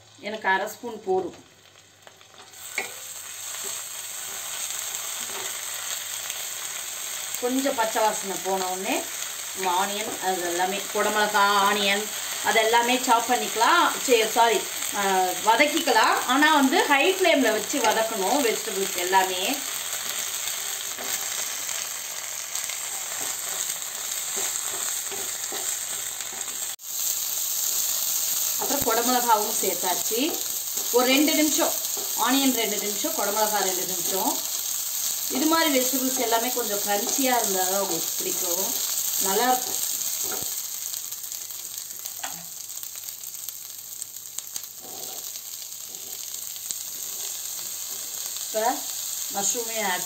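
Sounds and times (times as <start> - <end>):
onions sizzling in butter: 0.0 - 50.0.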